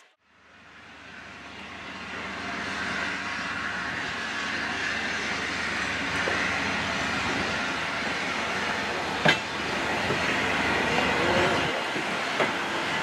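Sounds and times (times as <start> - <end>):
steam locomotive rolling: 0.0 - 13.0.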